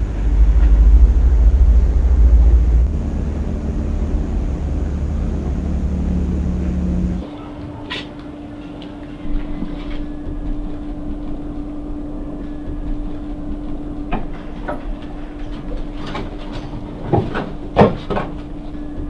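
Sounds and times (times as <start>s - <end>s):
low rumble: 0.0s - 7.3s, 9.0s - 17.8s
steady hum: 0.0s - 19.0s.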